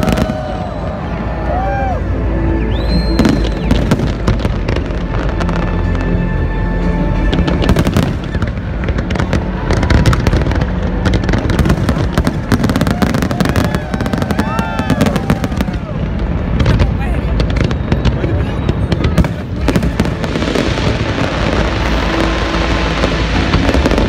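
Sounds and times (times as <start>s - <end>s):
fireworks crackling bangs: 0.0s - 1.3s, 2.8s - 6.2s, 7.2s - 24.0s.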